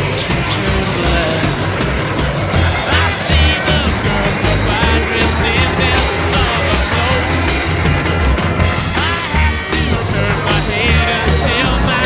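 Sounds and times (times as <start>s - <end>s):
rock song with singing: 0.0s - 12.0s
steady bass beat: 0.0s - 12.0s.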